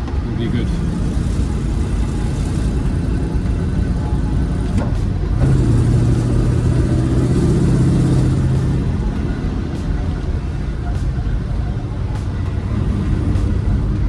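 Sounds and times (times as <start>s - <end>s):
car engine droning: 0.0s - 14.0s
road noise inside car: 0.0s - 14.0s.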